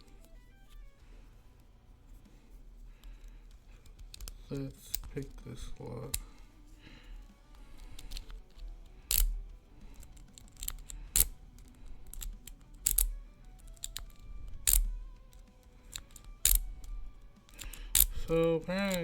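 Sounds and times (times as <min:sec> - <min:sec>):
lock picks clicking and scraping: 0:00.0 - 0:01.0, 0:02.9 - 0:19.0.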